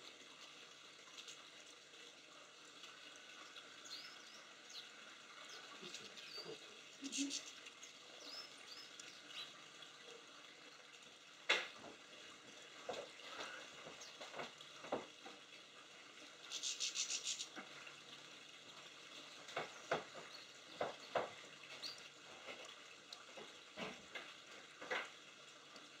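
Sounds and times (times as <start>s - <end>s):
rain patter: 0.0s - 26.0s.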